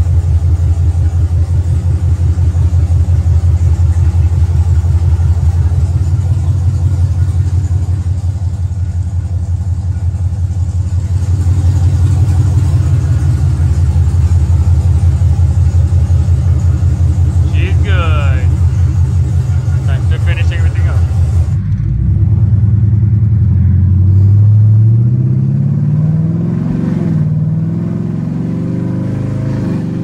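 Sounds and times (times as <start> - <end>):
car engine idling: 0.0 - 24.8.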